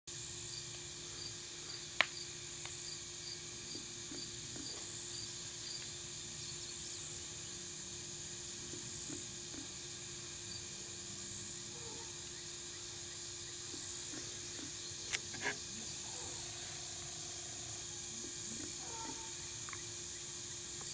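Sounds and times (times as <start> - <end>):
field insects chorus: 0.1 - 20.9
insect chirps: 0.1 - 20.9.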